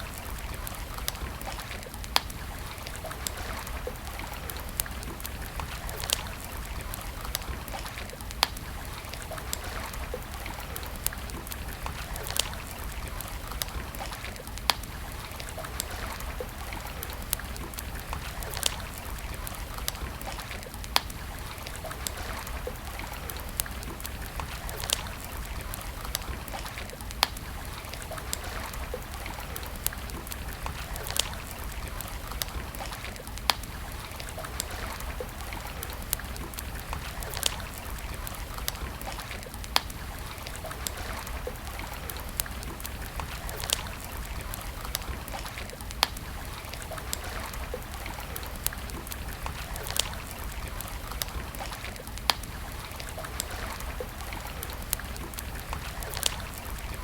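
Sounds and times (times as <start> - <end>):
campfire crackling and popping: 0.0 - 57.0
running water: 0.0 - 57.0.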